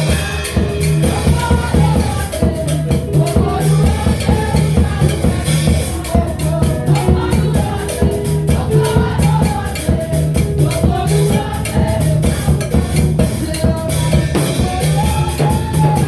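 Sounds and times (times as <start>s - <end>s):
gospel worship song: 0.0s - 16.0s
repeating bass line: 0.0s - 16.0s
steady drum beat: 0.0s - 16.0s.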